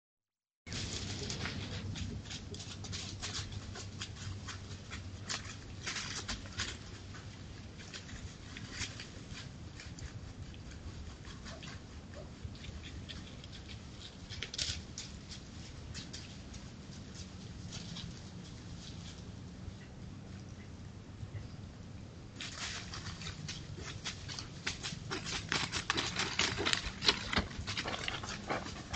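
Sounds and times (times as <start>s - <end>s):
paws rustling in dry leaves: 0.7s - 19.5s, 22.4s - 28.9s
steady low hum: 0.7s - 28.9s.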